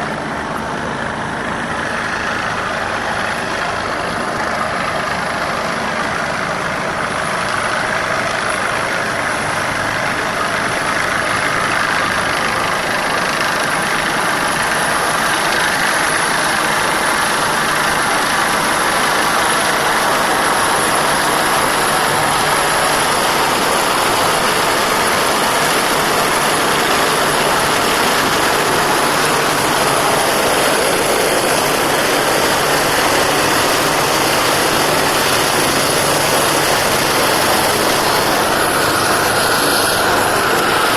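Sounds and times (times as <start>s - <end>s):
helicopter rotor and engine: 0.0s - 40.9s
high turbine whine: 0.0s - 40.9s.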